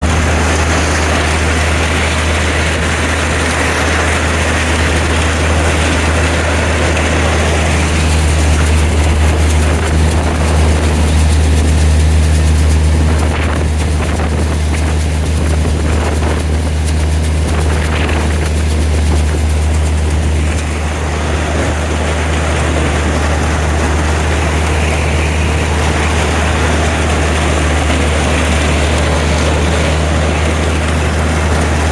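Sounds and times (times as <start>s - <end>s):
combine engine drone: 0.0s - 31.9s
machine clatter: 0.0s - 31.9s.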